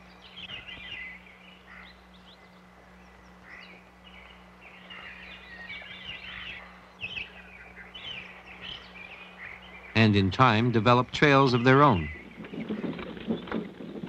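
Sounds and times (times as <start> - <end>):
birds chirping and singing: 0.0 - 14.0
steady low hum: 0.0 - 14.0.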